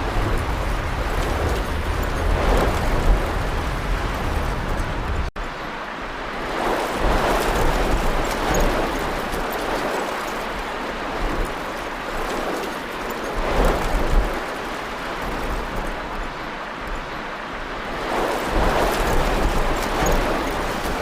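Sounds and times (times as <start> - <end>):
storm wind gusting on microphone: 0.0 - 21.0.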